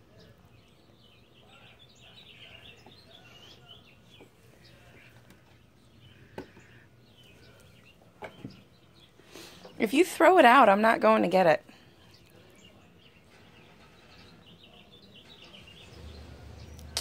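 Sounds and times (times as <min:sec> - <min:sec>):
faint songbirds chirping: 0:00.0 - 0:17.0.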